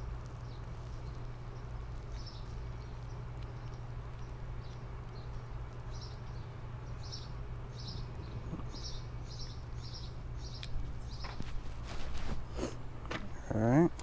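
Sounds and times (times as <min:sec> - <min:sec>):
steady low hum: 0:00.0 - 0:14.0
small bird chirping: 0:00.1 - 0:14.0.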